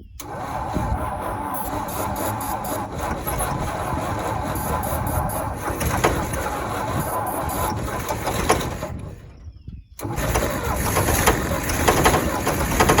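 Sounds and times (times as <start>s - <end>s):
engine cranking on starter: 0.0s - 13.0s.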